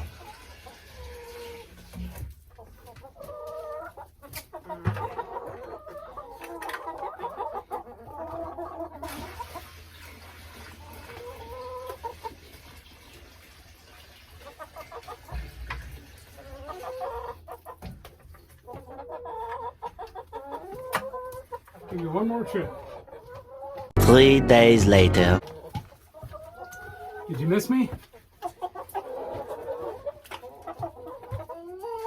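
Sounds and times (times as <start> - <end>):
hens clucking: 0.0 - 9.6, 10.8 - 12.4, 14.3 - 15.5, 16.3 - 32.0.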